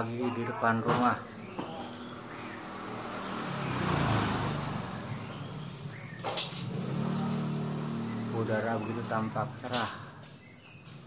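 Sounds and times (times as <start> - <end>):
motor vehicle passing: 0.6 - 10.2.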